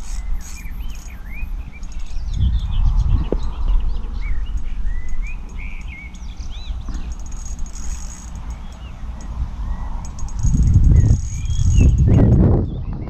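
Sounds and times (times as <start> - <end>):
small birds singing: 0.0 - 13.0.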